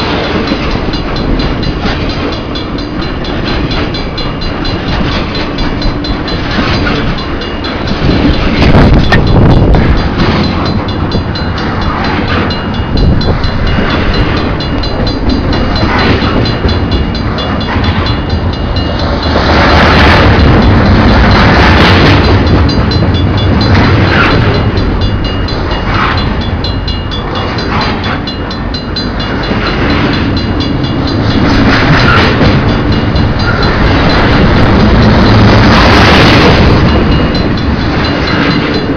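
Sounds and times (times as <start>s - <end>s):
train cars rumbling past: 0.0s - 38.9s.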